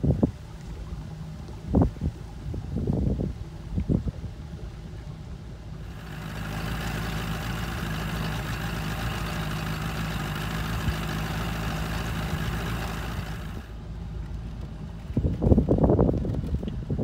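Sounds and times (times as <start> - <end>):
water rushing from wake: 0.0 - 14.1
outboard motor hum: 0.0 - 17.0.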